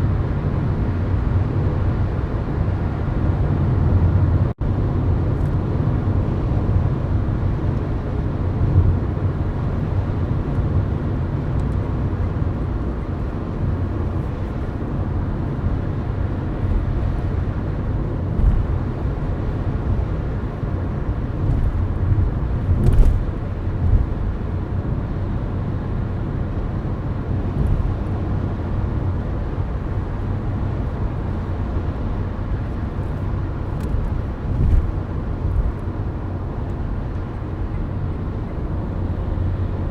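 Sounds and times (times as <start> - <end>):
car engine low rumble: 0.0 - 39.9
tyre road noise: 0.0 - 39.9.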